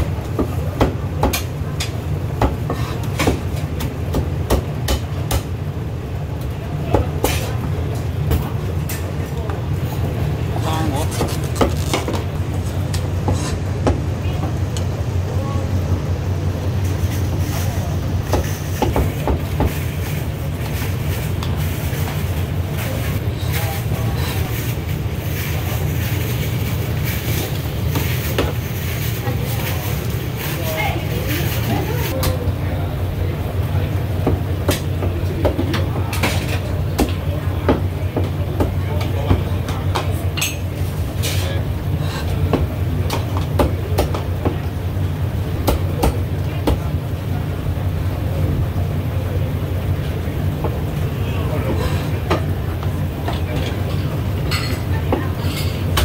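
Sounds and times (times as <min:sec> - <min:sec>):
busy restaurant kitchen rumble: 0:00.0 - 0:56.0
steady low hum: 0:00.0 - 0:56.0.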